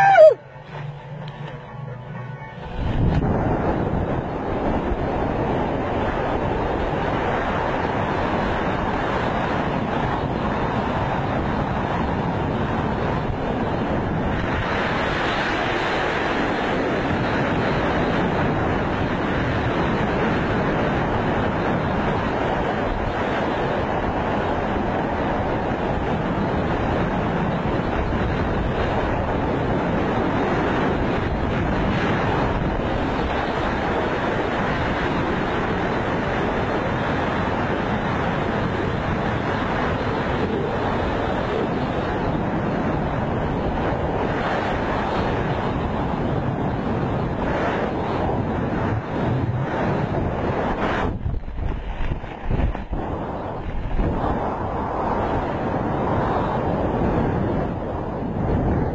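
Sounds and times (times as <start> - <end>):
wind battering microphone: 0.0 - 58.9.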